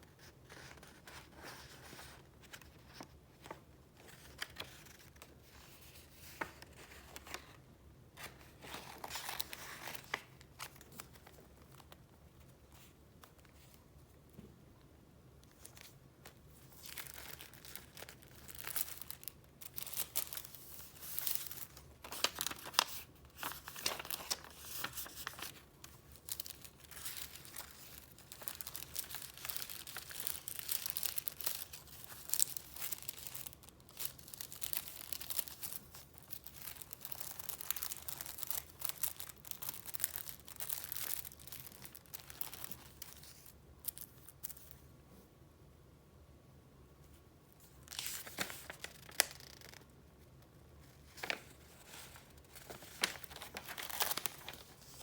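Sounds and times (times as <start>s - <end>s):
paper rustling and crinkling: 0.2s - 7.6s, 8.2s - 13.9s, 15.4s - 44.8s, 47.7s - 49.9s, 50.8s - 55.0s.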